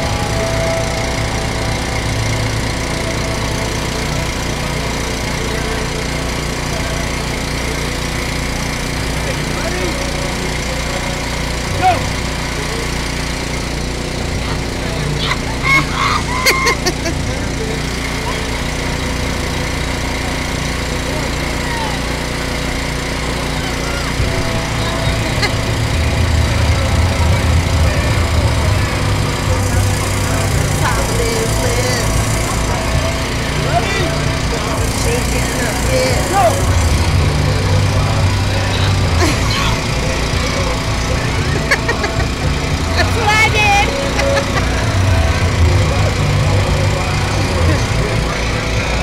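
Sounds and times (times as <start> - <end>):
electric air blower droning: 0.0 - 49.0
small motor humming: 0.0 - 49.0.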